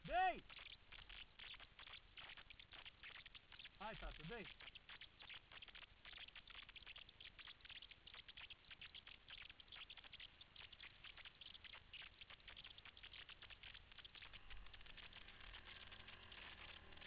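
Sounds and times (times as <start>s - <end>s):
faint irregular crackling: 0.0s - 17.0s.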